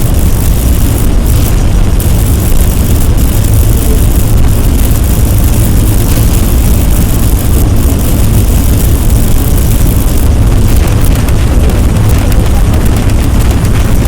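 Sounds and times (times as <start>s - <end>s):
loud rumbling drone with hiss: 0.0s - 14.0s.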